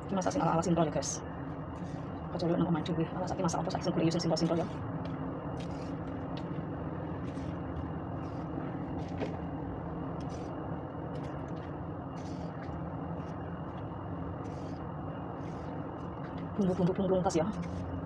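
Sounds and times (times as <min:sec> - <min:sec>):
machine hum with low tones: 0:00.0 - 0:18.0.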